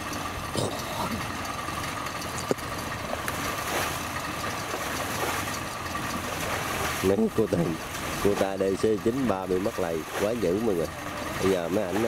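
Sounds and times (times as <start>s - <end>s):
machine engine idling: 0.0s - 12.0s
thin steady whine: 0.0s - 12.0s.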